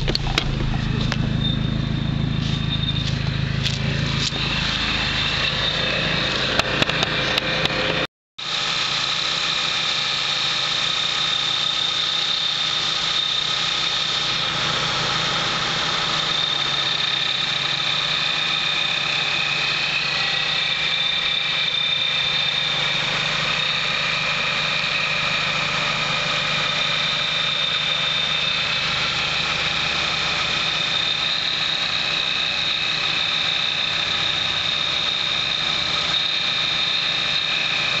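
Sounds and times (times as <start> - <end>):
car engine idling with whine: 0.0 - 38.0.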